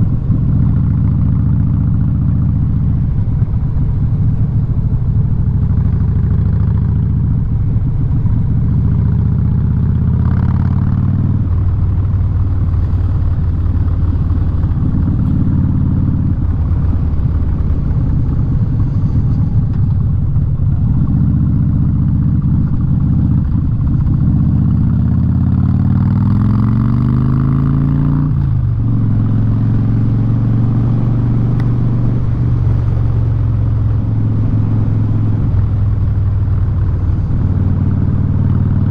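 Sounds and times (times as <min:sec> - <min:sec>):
motorcycle engine through loud exhaust: 0:00.0 - 0:38.9.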